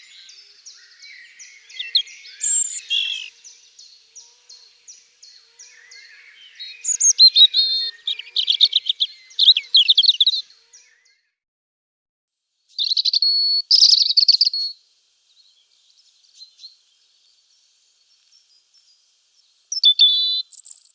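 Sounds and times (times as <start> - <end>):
robin singing: 0.0 - 11.2, 12.8 - 20.9.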